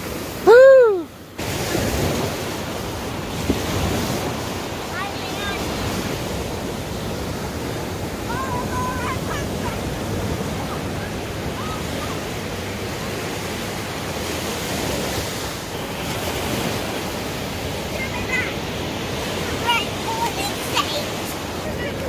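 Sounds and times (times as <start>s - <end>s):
ocean surf breaking on beach: 0.0s - 22.0s
wind buffeting microphone: 0.4s - 22.0s.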